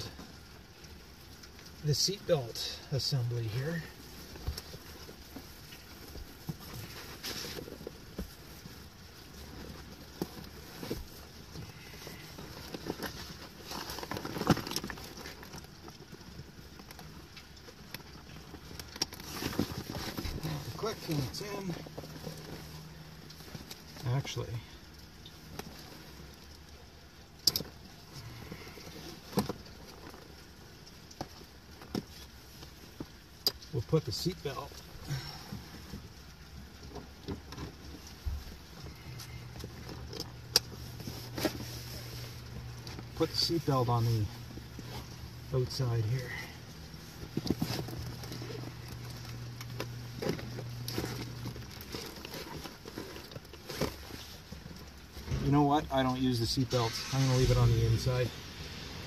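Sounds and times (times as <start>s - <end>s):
bag and webbing rustling: 0.0s - 59.0s
low steady hum: 0.0s - 59.0s.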